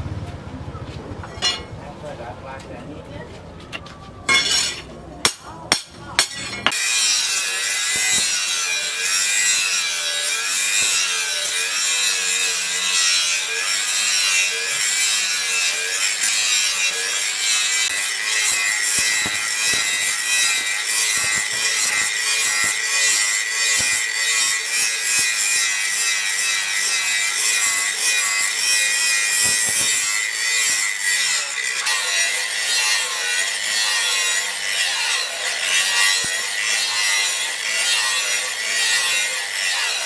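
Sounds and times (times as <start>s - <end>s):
angle grinder grinding steel: 1.2s - 1.8s, 4.3s - 40.0s.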